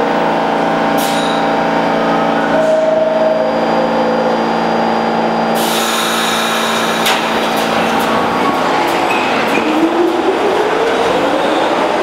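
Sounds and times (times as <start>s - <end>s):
subway train motors humming: 0.0s - 12.0s.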